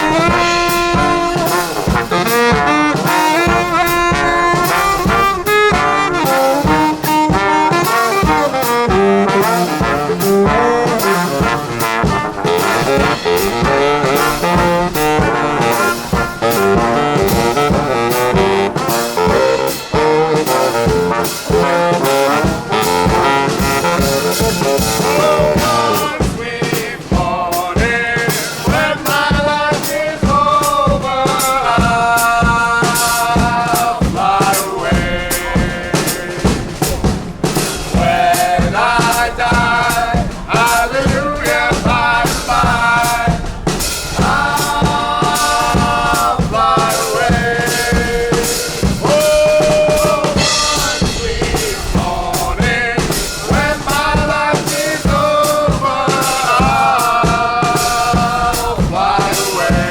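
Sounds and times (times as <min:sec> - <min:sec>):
band playing: 0:00.0 - 0:59.9
drum kit beat: 0:00.0 - 0:59.9.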